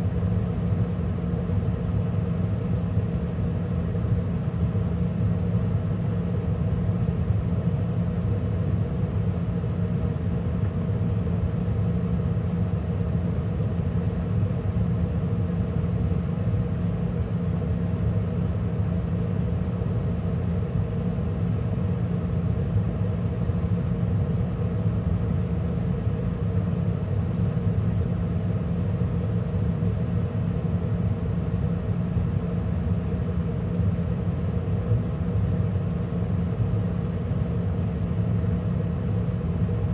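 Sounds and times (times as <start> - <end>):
gas furnace humming: 0.0 - 39.9.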